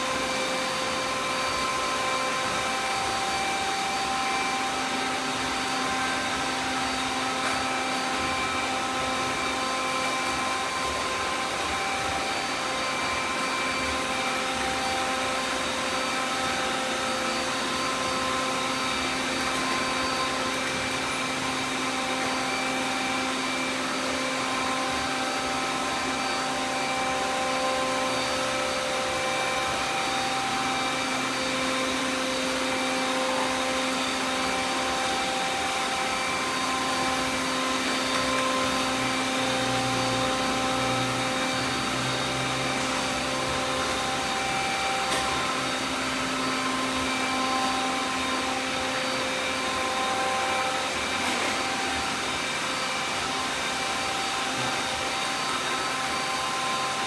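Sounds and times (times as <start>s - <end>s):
robot vacuums whirring: 0.0s - 57.0s.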